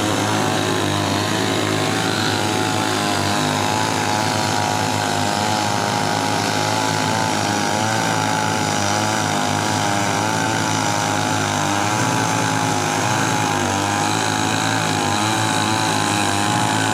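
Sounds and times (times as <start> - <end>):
chainsaw cutting wood: 0.0 - 16.9.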